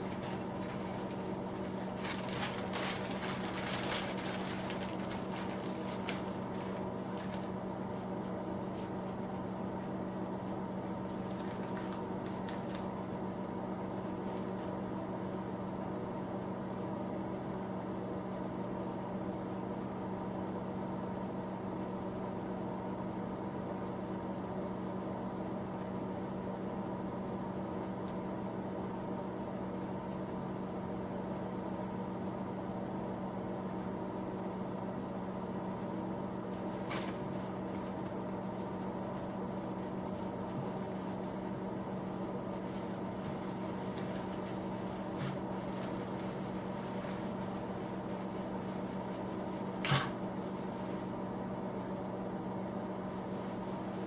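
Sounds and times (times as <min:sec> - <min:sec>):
space heater humming: 0:00.0 - 0:54.0.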